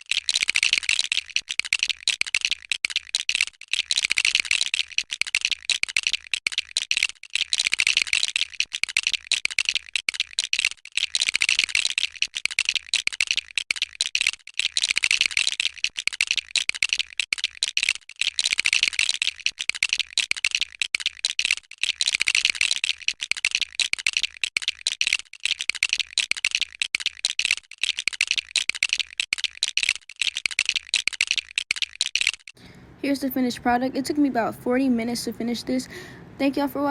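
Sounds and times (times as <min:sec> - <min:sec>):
plastic bricks clicking and rattling: 0:00.0 - 0:32.6.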